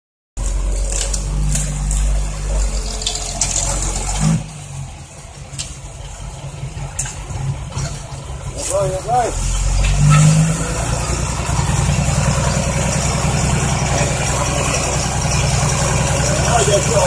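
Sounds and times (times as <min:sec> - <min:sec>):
diesel truck engine under load: 0:00.4 - 0:17.0.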